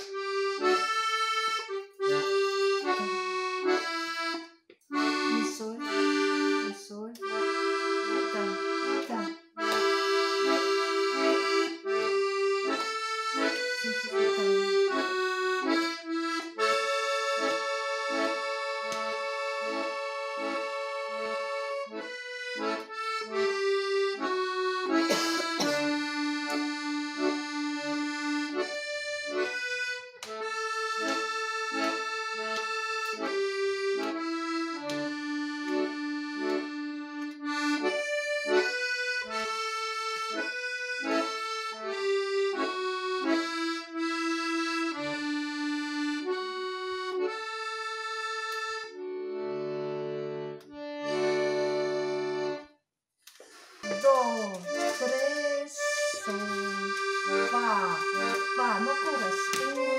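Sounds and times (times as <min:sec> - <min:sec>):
accordion melody: 0:00.0 - 0:59.9.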